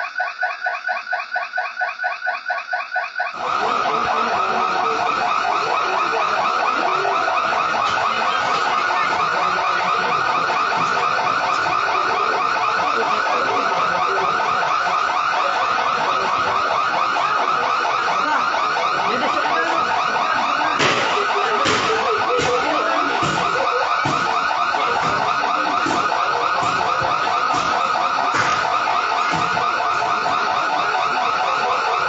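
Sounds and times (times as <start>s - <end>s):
burglar alarm tone: 0.0s - 32.0s.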